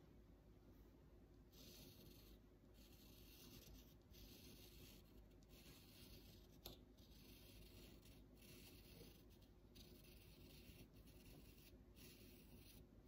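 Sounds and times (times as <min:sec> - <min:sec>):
pencil scratching on paper: 0:01.5 - 0:13.0.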